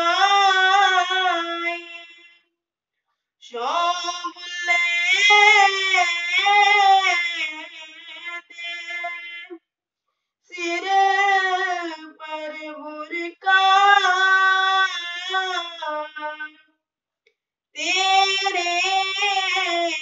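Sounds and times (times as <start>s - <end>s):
boy singing a hymn: 0.0s - 2.3s, 3.5s - 9.6s, 10.5s - 16.5s, 17.8s - 20.0s.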